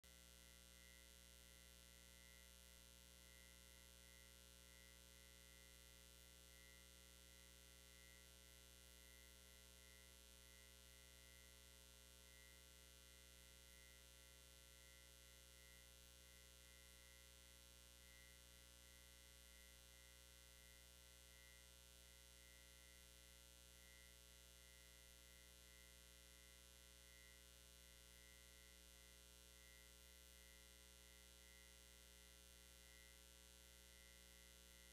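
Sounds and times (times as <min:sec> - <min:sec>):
faint electrical hum: 0:00.1 - 0:34.9.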